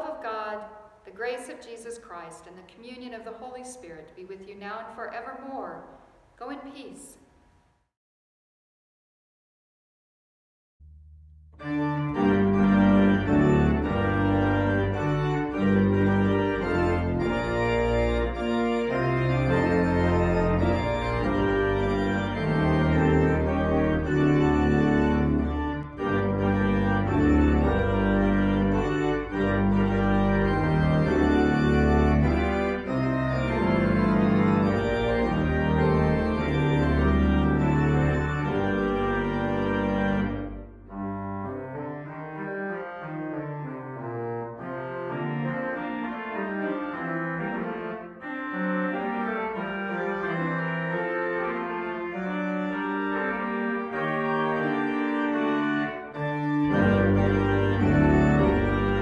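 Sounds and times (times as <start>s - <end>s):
church organ chords: 10.8s - 59.0s
deep organ pedal bass: 10.8s - 59.0s.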